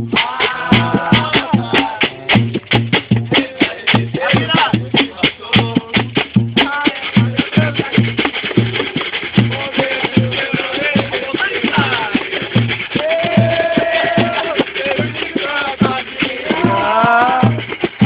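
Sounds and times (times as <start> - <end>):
group singing: 0.0 - 6.0, 6.6 - 17.8
shakers: 0.0 - 18.0
steady low drum beat: 0.0 - 18.0.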